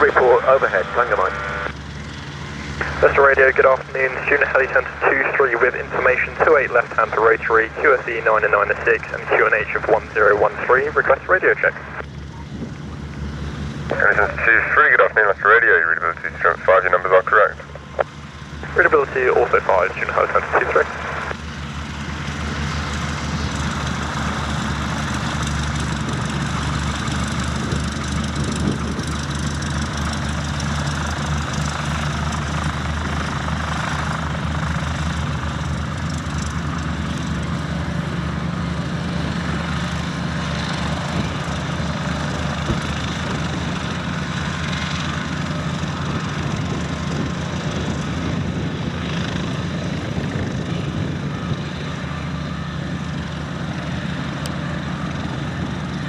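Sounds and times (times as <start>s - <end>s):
light aircraft engine and propeller: 0.0s - 56.0s.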